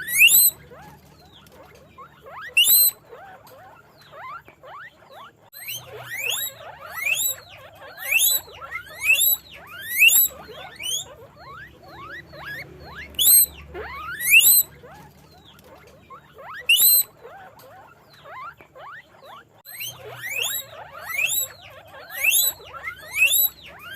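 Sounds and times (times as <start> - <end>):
guinea pigs squealing: 0.0 - 23.9.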